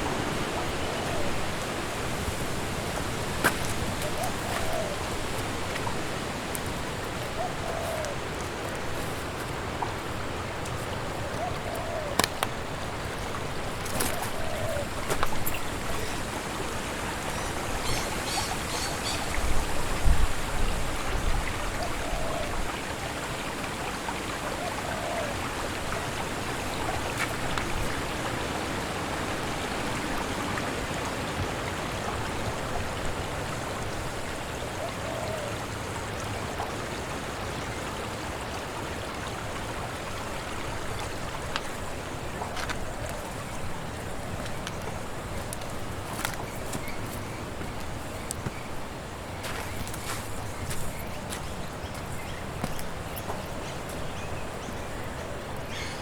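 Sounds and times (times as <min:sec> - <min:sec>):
wind rushing through trees: 0:00.0 - 0:56.0.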